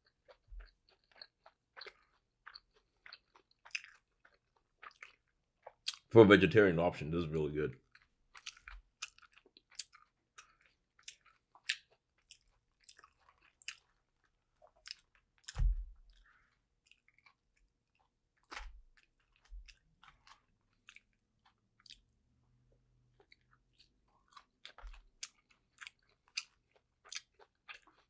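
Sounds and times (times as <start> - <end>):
wet chewing smacks: 0.0 - 6.1, 7.7 - 22.2, 23.2 - 28.0.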